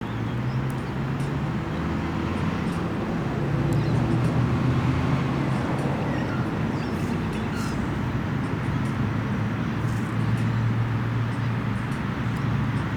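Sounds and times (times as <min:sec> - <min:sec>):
road noise: 0:00.0 - 0:12.9.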